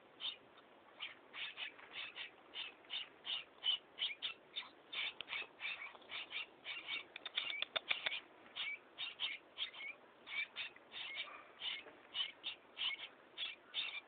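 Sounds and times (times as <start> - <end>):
chicks harsh begging calls: 0.1 - 14.0.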